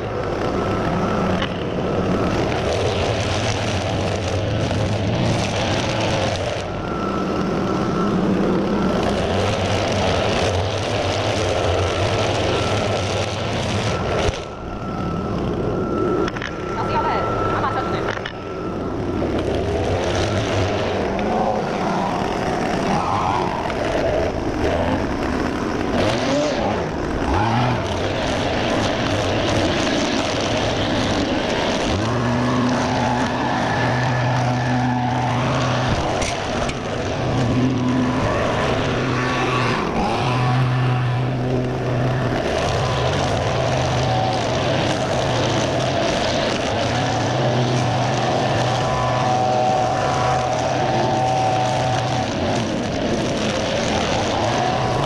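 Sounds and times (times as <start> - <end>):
string trimmer cutting grass: 0.0 - 14.7, 15.5 - 55.0.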